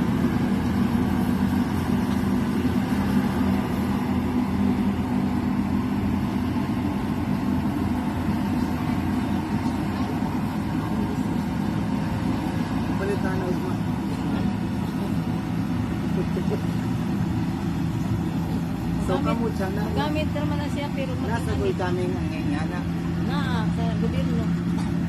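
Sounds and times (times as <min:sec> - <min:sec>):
harvester engine humming: 0:00.0 - 0:25.0.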